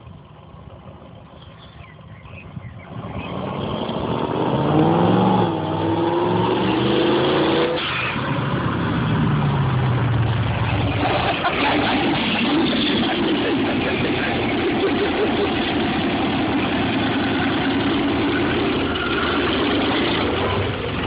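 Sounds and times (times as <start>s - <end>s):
car engine accelerating hard: 1.1s - 21.0s.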